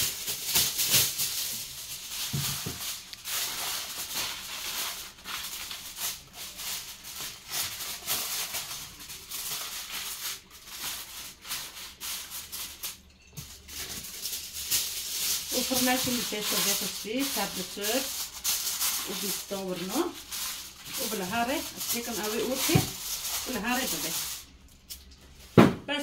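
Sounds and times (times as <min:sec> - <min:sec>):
aluminium foil crinkling: 0:00.0 - 0:25.6.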